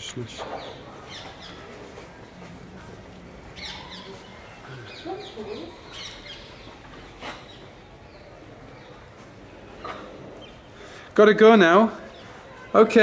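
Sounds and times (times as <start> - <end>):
birds chirping: 0.0 - 12.8.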